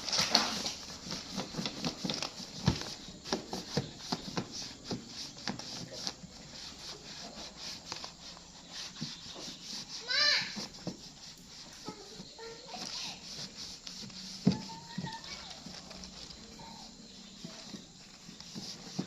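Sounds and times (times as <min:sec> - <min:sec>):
rubbing strokes on scooter bodywork: 0:00.0 - 0:19.0.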